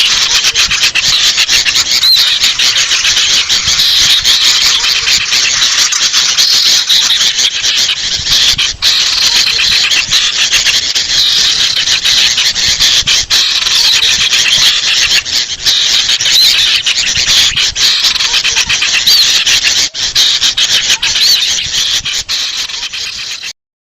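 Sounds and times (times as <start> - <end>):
shrill scolding bird chirps: 0.0 - 23.6.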